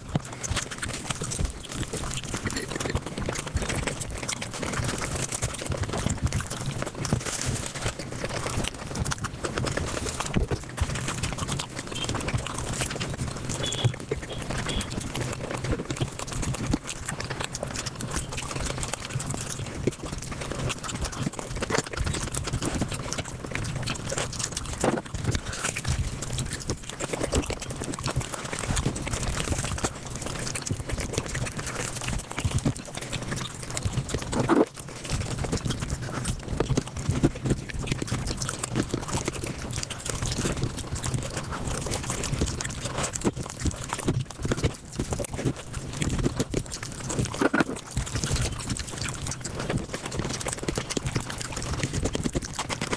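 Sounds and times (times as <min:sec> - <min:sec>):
sped-up chewing and smacking: 0:00.0 - 0:52.9.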